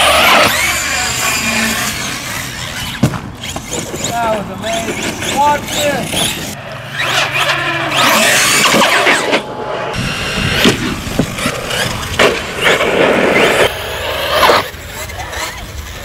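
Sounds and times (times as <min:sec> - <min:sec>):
toy truck landings: 0:00.0 - 0:04.2, 0:04.8 - 0:09.5, 0:10.1 - 0:16.0
electric motor whining: 0:00.0 - 0:16.0
tyre noise: 0:00.0 - 0:16.0.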